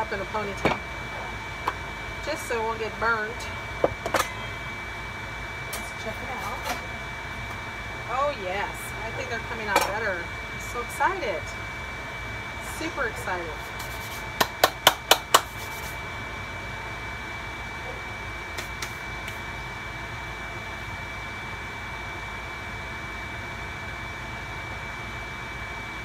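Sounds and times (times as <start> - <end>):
kitchen vent fan humming: 0.0 - 26.0.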